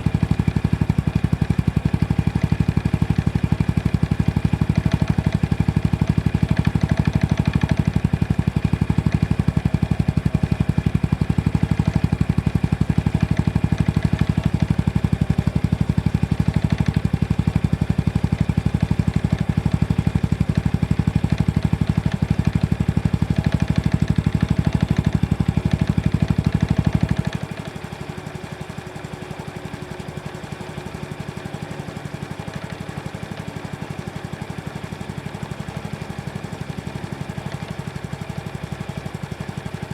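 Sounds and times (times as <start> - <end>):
engine rattling: 0.0 - 39.9
motorcycle engine idling: 0.0 - 39.9.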